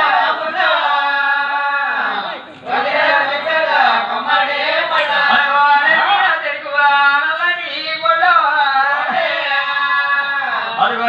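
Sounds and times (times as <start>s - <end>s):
group singing folk song: 0.0s - 11.0s.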